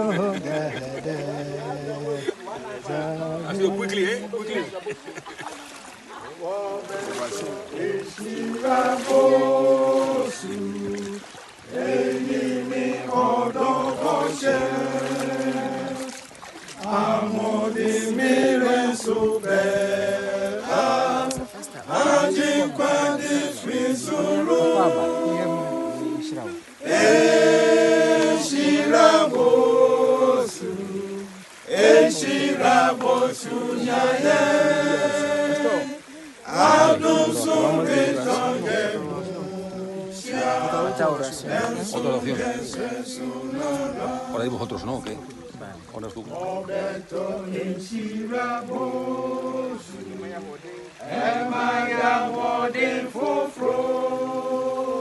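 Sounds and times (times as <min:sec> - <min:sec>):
voices singing a hymn: 0:00.0 - 0:55.0.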